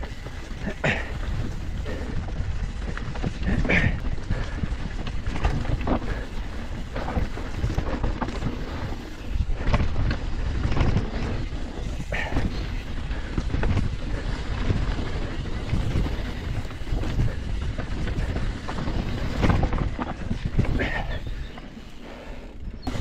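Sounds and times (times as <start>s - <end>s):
bike knocks and rattles: 0.0s - 21.5s
bike tyres rumbling on dirt: 0.0s - 23.0s
wind buffeting microphone: 0.0s - 23.0s.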